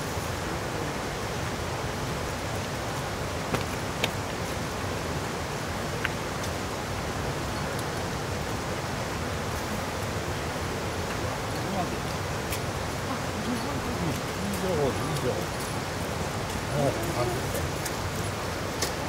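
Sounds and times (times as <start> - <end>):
rushing outdoor noise: 0.0 - 19.0.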